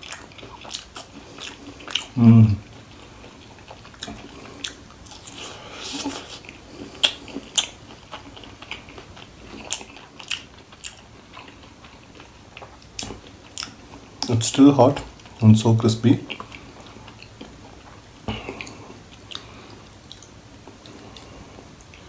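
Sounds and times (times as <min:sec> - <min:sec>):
chewing crispy food: 0:00.0 - 0:22.0.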